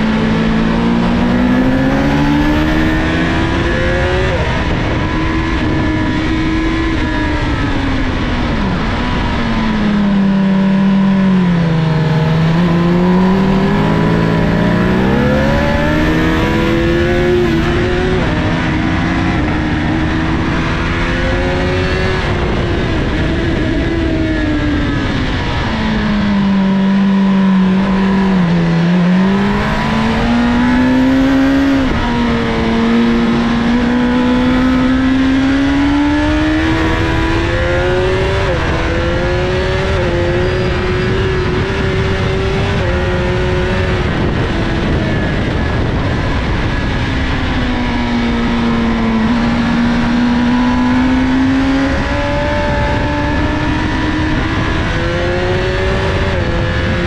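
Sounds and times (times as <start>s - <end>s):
motorcycle engine at speed: 0.0s - 57.0s
wind and road noise: 0.0s - 57.0s.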